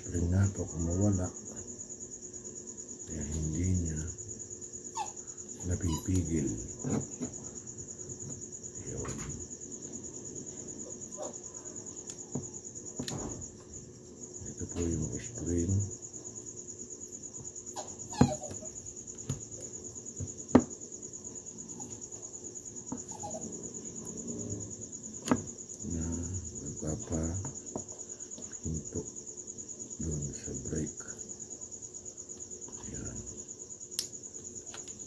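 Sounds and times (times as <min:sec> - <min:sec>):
insect trilling: 0:00.0 - 0:35.0.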